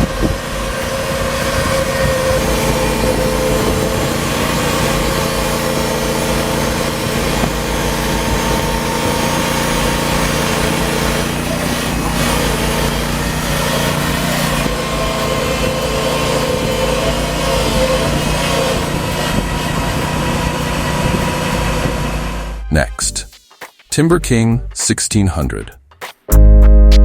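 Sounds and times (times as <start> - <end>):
sawmill engine running: 0.0 - 23.3.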